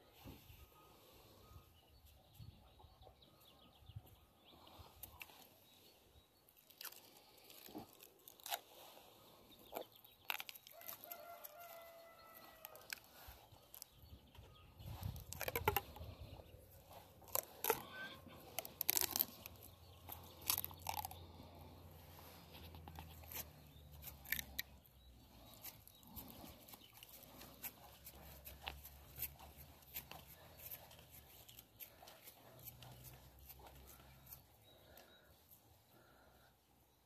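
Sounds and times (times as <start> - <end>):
crackles and rustles of handling: 0.0 - 37.0.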